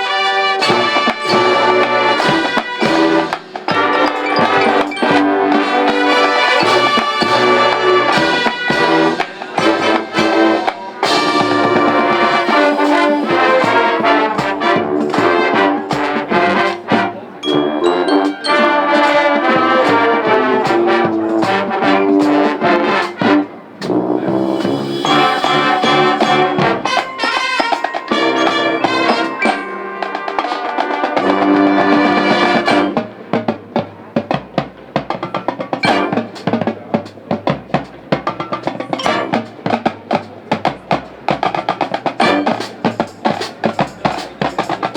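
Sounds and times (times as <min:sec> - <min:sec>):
brass instruments: 0:00.0 - 0:44.9
drums and percussion: 0:00.0 - 0:44.9.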